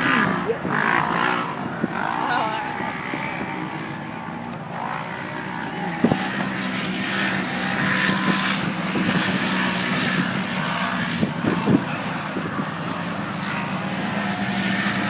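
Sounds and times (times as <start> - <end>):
race vehicle engine running hard: 0.0 - 15.0.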